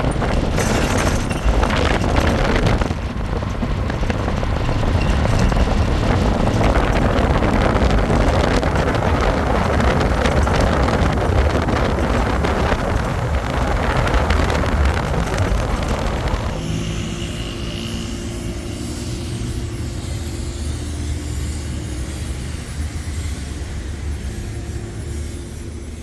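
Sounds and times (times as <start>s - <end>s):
loud rushing noise: 0.0s - 26.0s
low motor hum: 0.0s - 26.0s.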